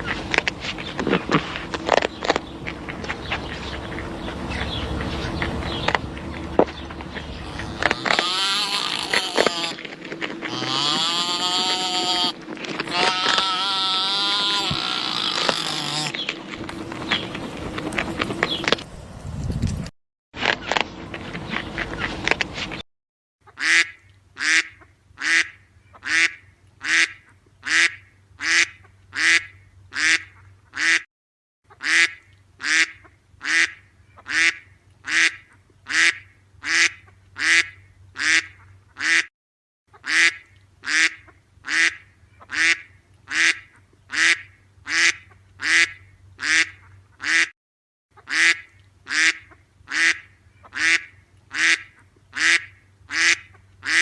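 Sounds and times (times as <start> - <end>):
waterfowl calling: 0.0 - 18.8, 21.2 - 22.8, 23.5 - 31.0, 31.7 - 39.3, 39.9 - 47.5, 48.2 - 54.0.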